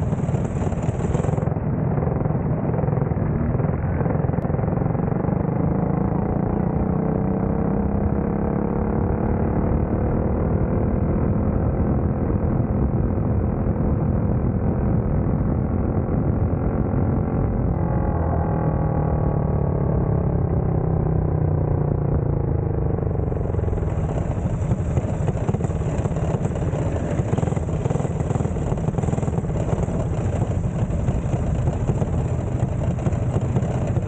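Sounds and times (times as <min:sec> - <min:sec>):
heavy rumbling noise: 0:00.0 - 0:09.2, 0:10.2 - 0:34.0
race car engine running: 0:00.0 - 0:34.0.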